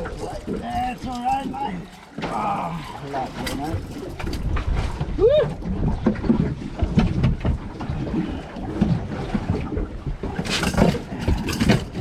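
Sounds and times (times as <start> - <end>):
sea noise: 0.0 - 12.0
wind: 0.0 - 12.0.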